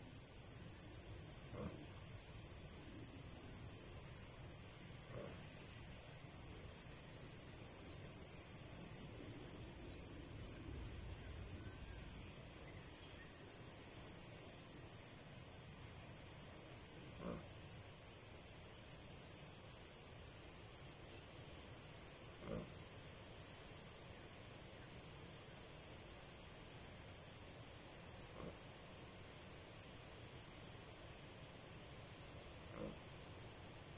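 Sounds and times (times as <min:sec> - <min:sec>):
insects chorus: 0:00.0 - 0:33.9.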